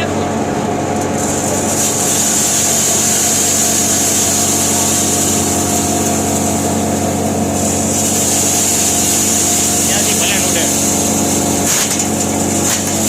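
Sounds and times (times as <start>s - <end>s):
hammer mill humming: 0.0s - 13.0s
high hiss of grain grinding: 1.1s - 13.0s.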